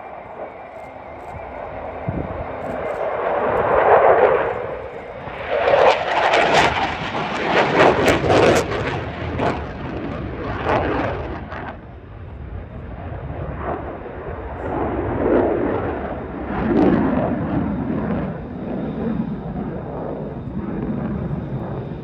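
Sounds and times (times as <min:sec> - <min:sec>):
jet engine roaring: 0:00.0 - 0:22.0.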